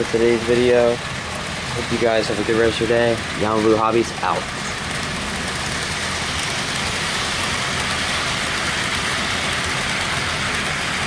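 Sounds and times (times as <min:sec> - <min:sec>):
model train whirring on track: 0:00.0 - 0:11.0.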